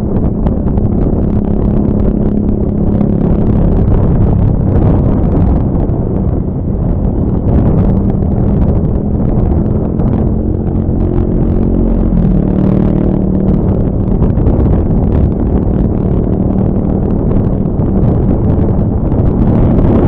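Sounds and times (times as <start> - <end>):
wind rush on microphone: 0.0 - 20.0.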